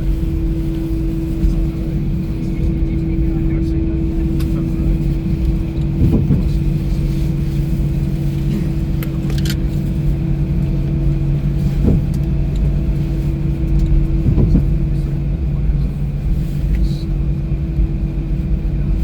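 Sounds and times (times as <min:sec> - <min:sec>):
aircraft engines humming: 0:00.0 - 0:19.0
cabin low rumble: 0:00.0 - 0:19.0.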